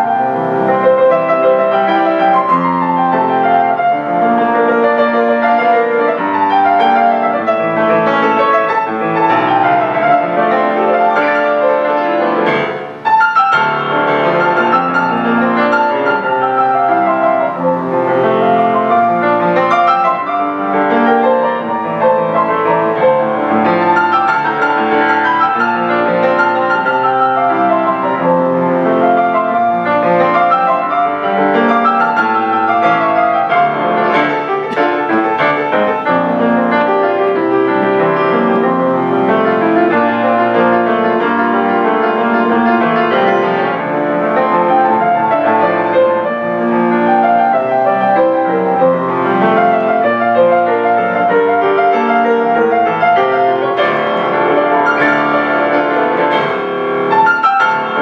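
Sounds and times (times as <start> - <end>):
solo grand piano: 0.0 - 58.0.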